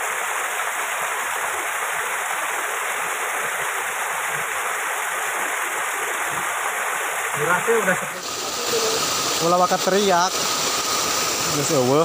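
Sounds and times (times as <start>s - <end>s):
waterfall rushing into stream: 0.0s - 12.0s.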